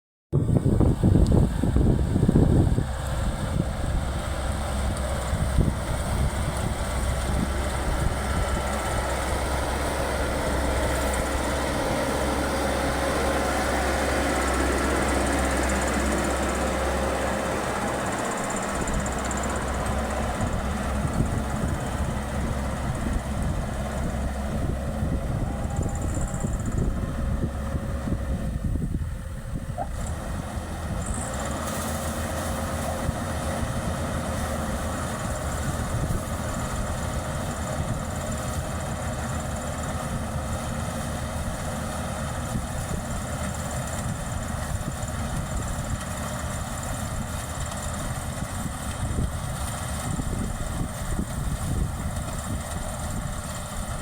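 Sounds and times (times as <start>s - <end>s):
combine harvester engine and machinery: 0.4s - 54.0s.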